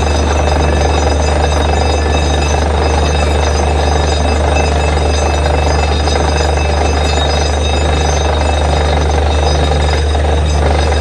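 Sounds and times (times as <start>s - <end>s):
drilling rig low drone: 0.0s - 11.0s.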